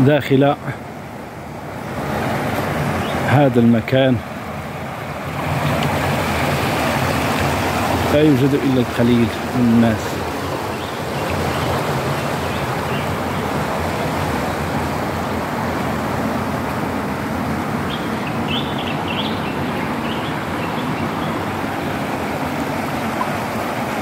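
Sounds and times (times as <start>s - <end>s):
water rushing down channel: 0.0s - 24.0s.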